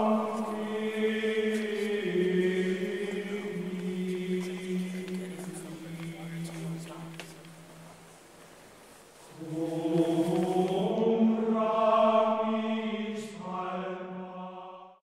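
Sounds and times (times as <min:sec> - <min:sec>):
choir singing held notes: 0:00.0 - 0:07.6, 0:09.3 - 0:15.0.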